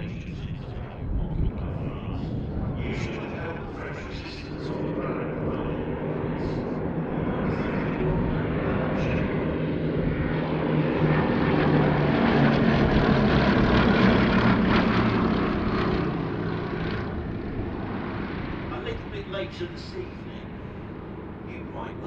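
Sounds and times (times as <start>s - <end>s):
propeller aircraft passing overhead: 0.0s - 22.0s.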